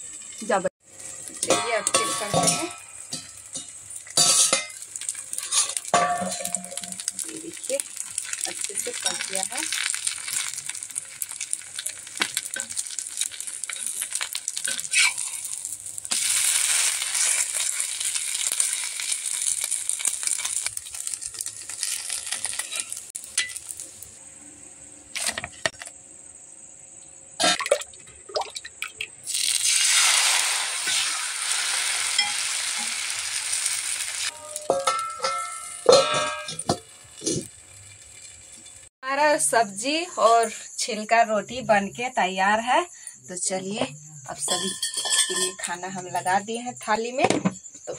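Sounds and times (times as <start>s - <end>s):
roti sizzling in oil: 0.0s - 26.7s, 29.2s - 41.1s.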